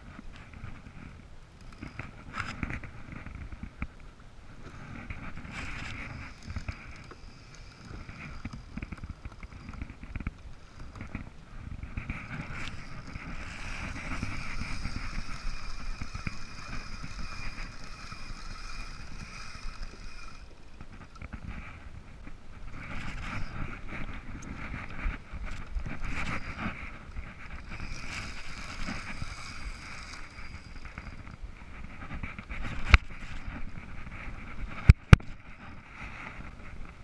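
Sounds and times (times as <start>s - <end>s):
fishing reel whirring: 0.1s - 3.8s, 4.6s - 36.8s
wind buffeting microphone: 4.6s - 37.0s.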